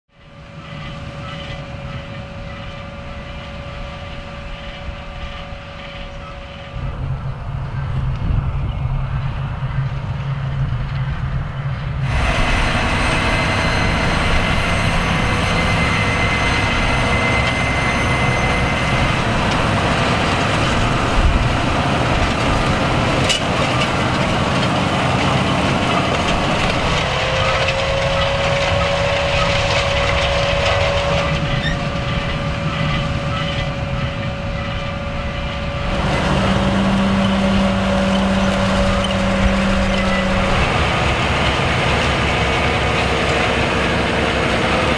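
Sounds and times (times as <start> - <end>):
steady whine: 0.1 - 44.9
tractor engine rumbling: 0.1 - 44.9.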